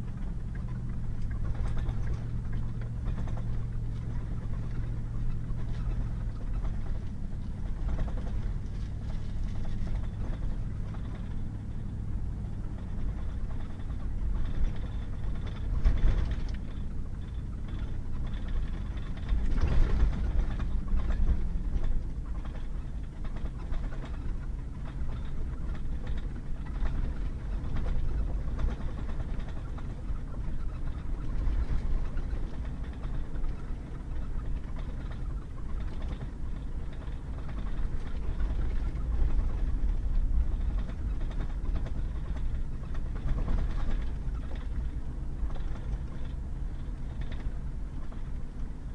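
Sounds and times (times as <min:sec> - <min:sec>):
pickup truck driving on dirt road: 0:00.0 - 0:48.9.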